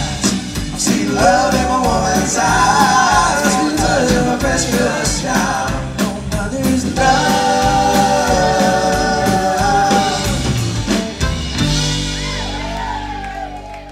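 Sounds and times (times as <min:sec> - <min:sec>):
drum and cymbal hits: 0:00.0 - 0:12.9
live band playing: 0:00.0 - 0:13.9.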